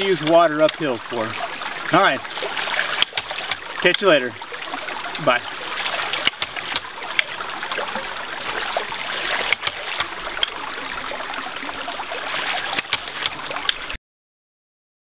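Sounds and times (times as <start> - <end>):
stream rushing: 0.0 - 14.0
water spurting and splashing: 0.0 - 14.0.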